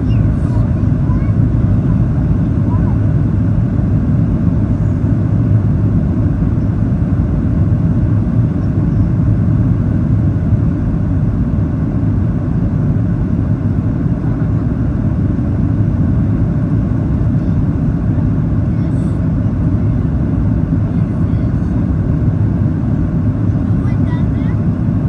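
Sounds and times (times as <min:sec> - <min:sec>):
aircraft cabin rumble: 0:00.0 - 0:25.0.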